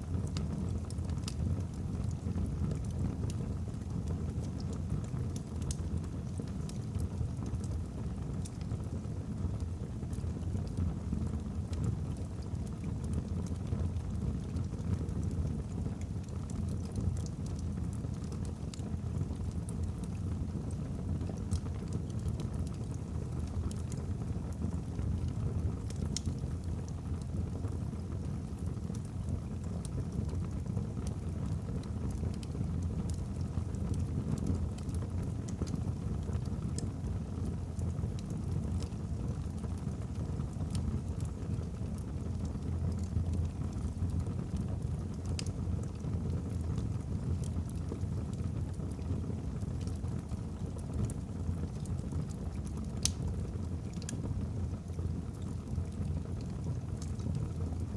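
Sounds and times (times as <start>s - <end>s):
low fire rumble: 0.0s - 57.9s
wood fire crackling and popping: 0.0s - 57.9s.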